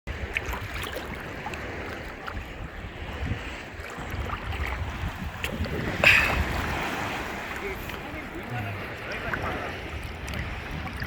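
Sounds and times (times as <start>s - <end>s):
small water splashes: 0.1s - 11.0s
surf washing: 0.1s - 11.0s
wind buffeting microphone: 0.1s - 11.0s.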